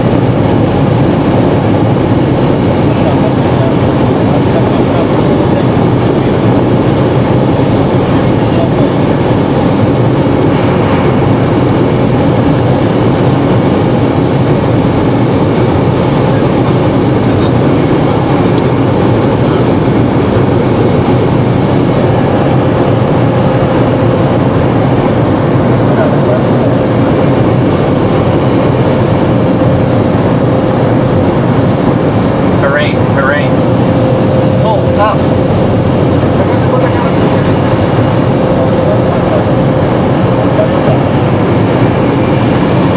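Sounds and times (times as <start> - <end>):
propeller plane engine in cabin: 0.0 - 42.9.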